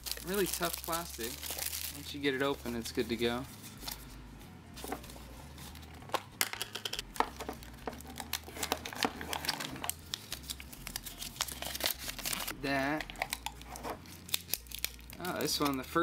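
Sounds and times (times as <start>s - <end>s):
plastic packaging crinkling: 0.0s - 4.1s, 6.6s - 16.0s.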